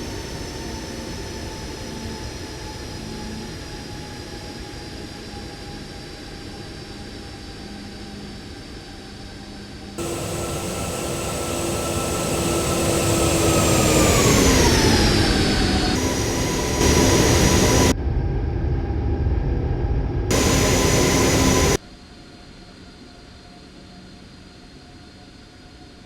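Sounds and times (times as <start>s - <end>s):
jet engines whining and rumbling: 0.0s - 21.8s.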